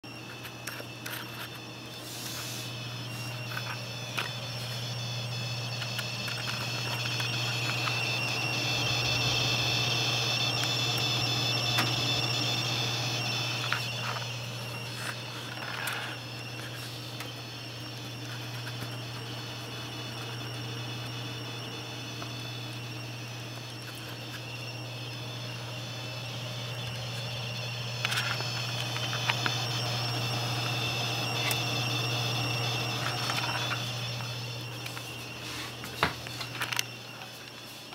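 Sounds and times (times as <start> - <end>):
high-pitched coil whine: 0.0 - 37.9
low hum: 0.1 - 37.9.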